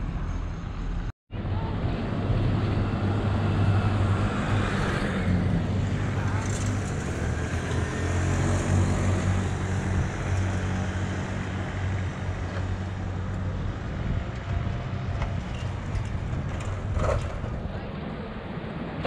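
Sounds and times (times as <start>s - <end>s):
city street noise: 0.0s - 19.0s
vehicle engine humming: 0.0s - 19.0s.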